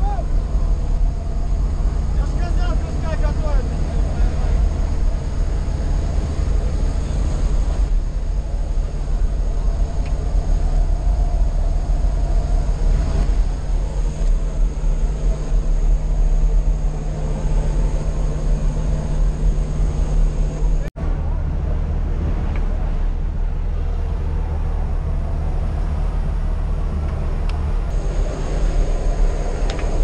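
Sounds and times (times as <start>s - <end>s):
airplane engines humming: 0.0s - 30.0s.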